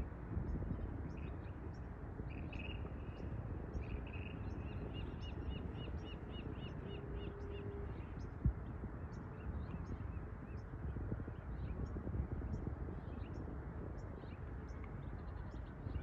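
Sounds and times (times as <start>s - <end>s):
low outdoor background noise: 0.0s - 16.0s.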